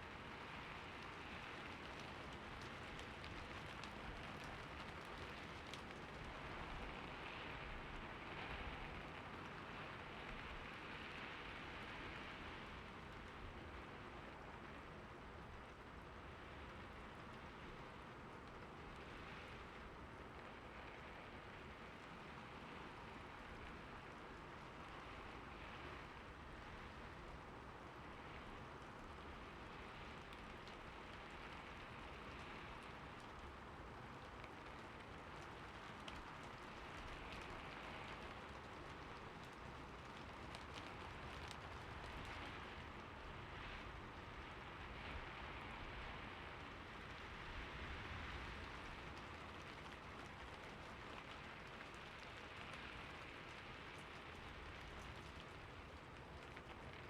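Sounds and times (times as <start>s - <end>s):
soft rain hissing: 0.1s - 57.0s.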